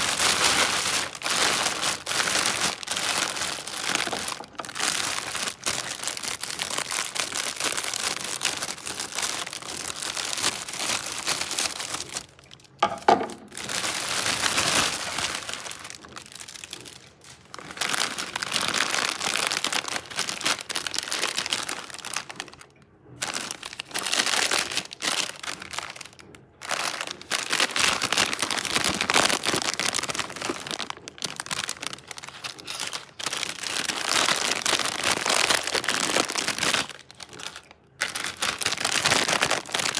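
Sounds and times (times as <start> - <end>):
plastic chip bag crinkling: 0.0 - 39.9.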